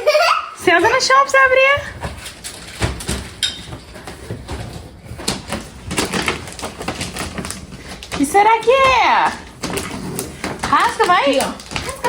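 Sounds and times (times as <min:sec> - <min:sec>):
gift box rustling: 0:00.6 - 0:12.0.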